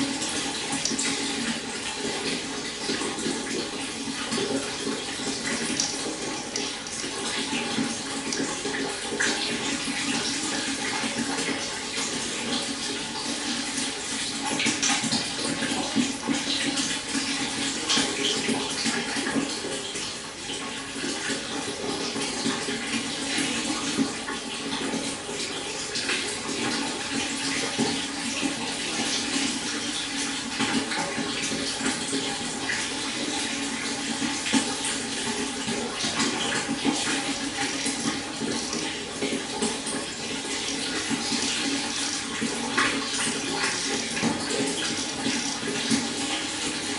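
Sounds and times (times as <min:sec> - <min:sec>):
water splashing and gurgling: 0:00.0 - 0:46.9.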